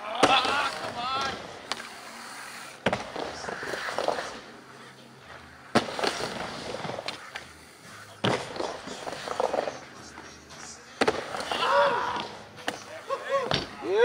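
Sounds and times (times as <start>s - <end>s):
skateboard slapping ramp: 0.0s - 4.5s, 5.7s - 14.0s
skateboard wheels rolling on wood: 0.0s - 14.0s.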